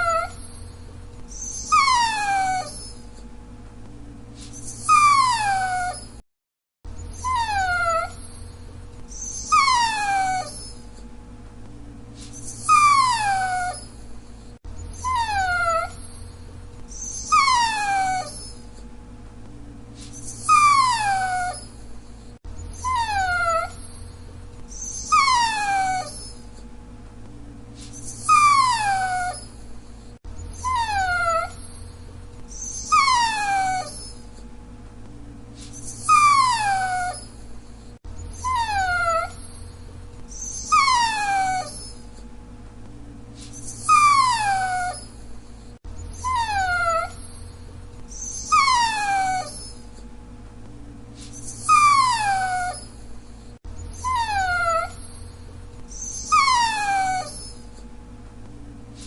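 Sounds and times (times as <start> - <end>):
dog whining: 0.0 - 3.3, 4.4 - 6.2, 6.9 - 11.1, 12.2 - 18.9, 20.0 - 26.7, 27.8 - 34.5, 35.6 - 42.3, 43.4 - 50.1, 51.2 - 57.9.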